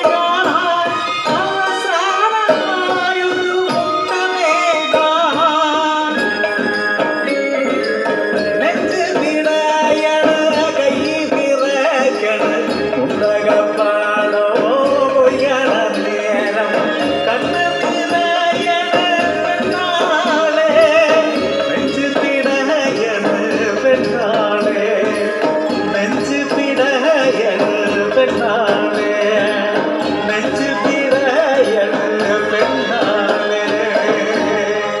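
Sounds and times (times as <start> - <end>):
hand percussion: 0.0 - 35.0
person singing: 0.0 - 35.0.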